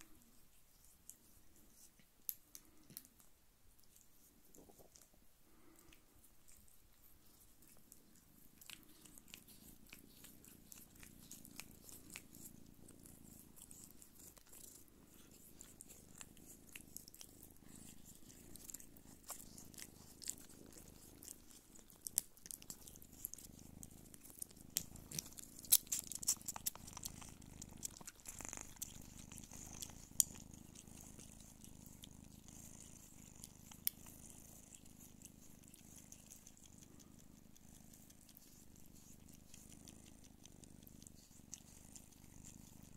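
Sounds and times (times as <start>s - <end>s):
cats purring: 0.0s - 42.9s
kittens suckling: 0.0s - 42.9s.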